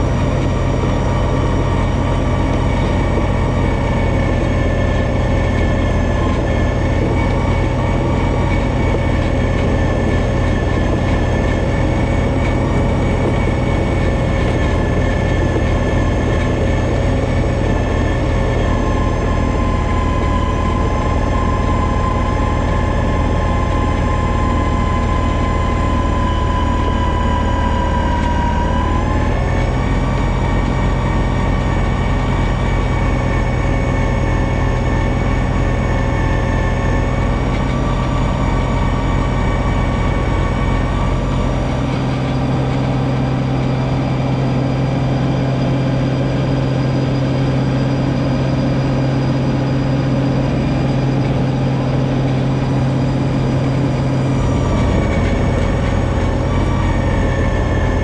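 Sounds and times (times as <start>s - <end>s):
steady mechanical whine: 0.0s - 58.0s
tractor diesel engine running: 0.0s - 58.0s.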